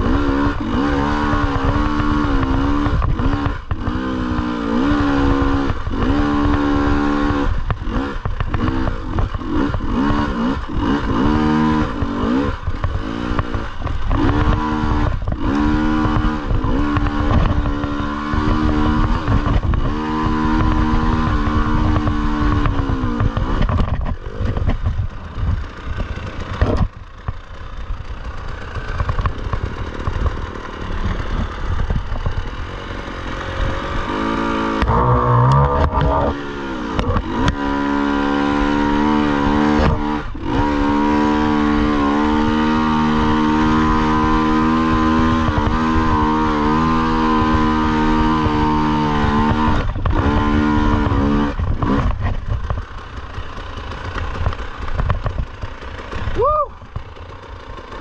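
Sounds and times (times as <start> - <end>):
dirt bike engine revving: 0.0 - 58.0
engine rough clatter: 0.0 - 58.0.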